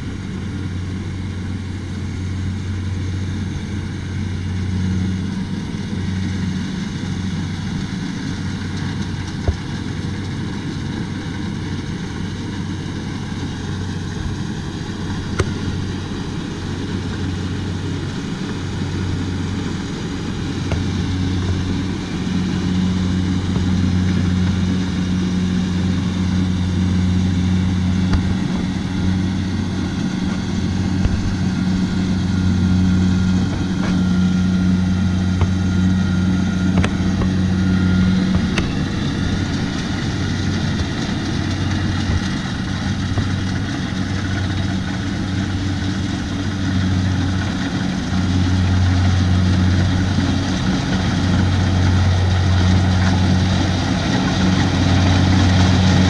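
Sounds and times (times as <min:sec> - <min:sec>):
combine harvester diesel drone: 0:00.0 - 0:56.0.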